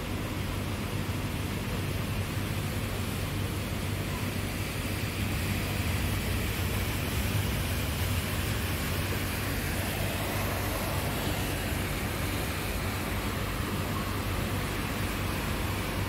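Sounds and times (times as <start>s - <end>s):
low traffic hum: 0.0s - 16.0s
rain hiss: 0.0s - 16.0s
vehicles driving through water: 2.8s - 16.0s.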